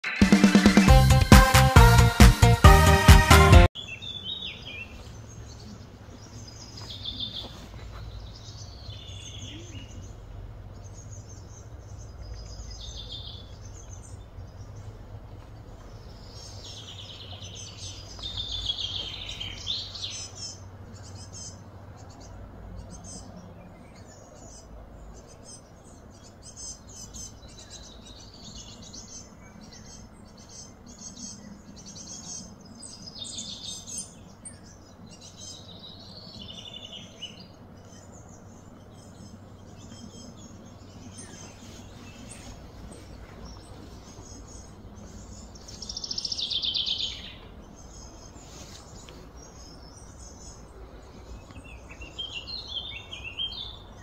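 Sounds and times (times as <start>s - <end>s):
birds calling and chirping: 3.7s - 54.0s
low steady hum: 4.2s - 54.0s.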